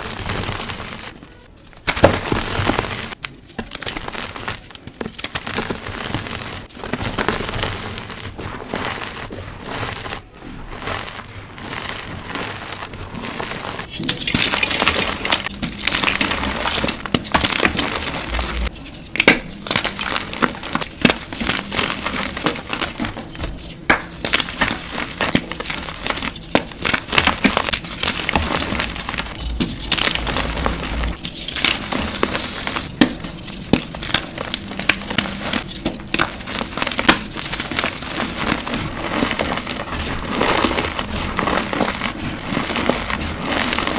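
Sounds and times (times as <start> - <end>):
chalk blocks being crushed: 0.0 - 43.9.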